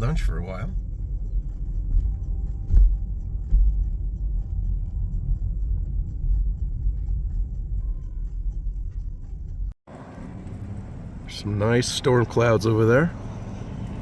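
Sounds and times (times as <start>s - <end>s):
low uneven rumble: 0.0s - 14.0s.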